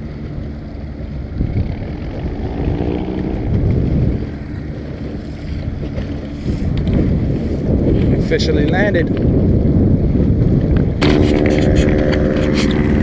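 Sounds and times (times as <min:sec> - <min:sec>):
outboard motor droning: 0:00.0 - 0:13.0
water splashing off hull: 0:00.0 - 0:13.0
wind buffeting microphone: 0:00.0 - 0:13.0.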